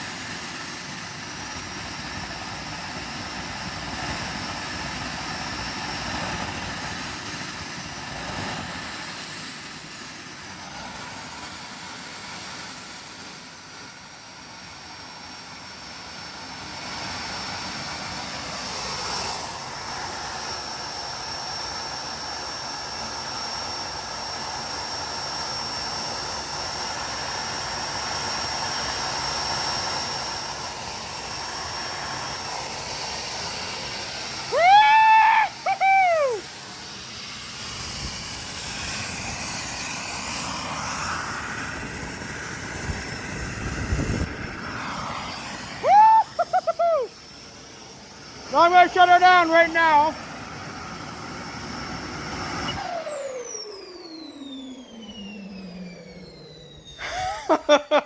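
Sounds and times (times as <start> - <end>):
model jet turbine whine: 0.0 - 58.0.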